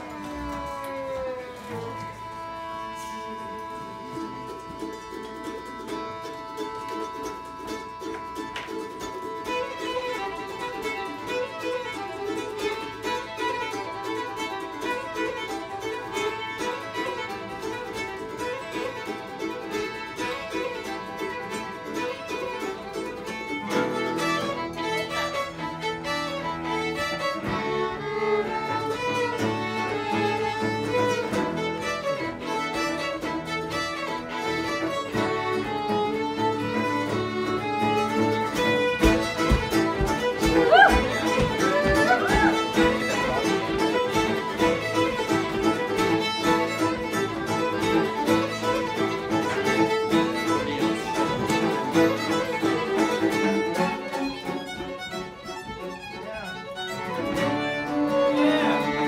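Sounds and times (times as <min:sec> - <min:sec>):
strummed acoustic guitar: 0:00.0 - 0:56.2
fiddles playing melody: 0:00.0 - 0:59.0
mandolin: 0:00.0 - 0:59.0.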